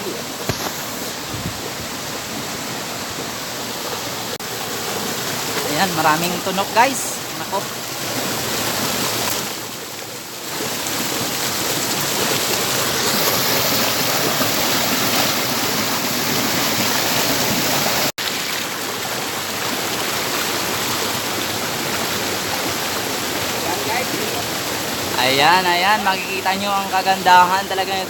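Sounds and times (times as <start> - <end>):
waterfall and river rushing: 0.0 - 28.0.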